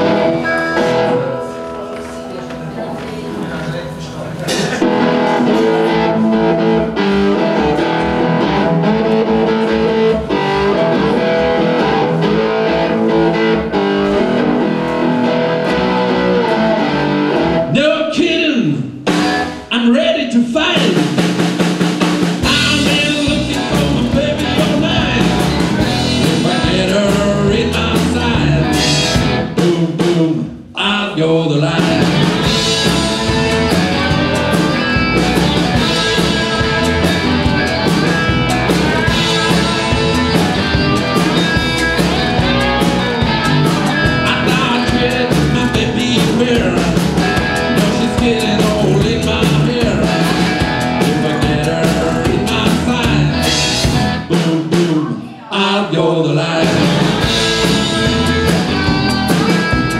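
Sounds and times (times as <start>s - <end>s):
guitar riff: 0.0s - 18.0s, 21.0s - 30.1s, 31.6s - 55.5s, 56.6s - 59.9s
live rock-blues band: 0.0s - 59.9s.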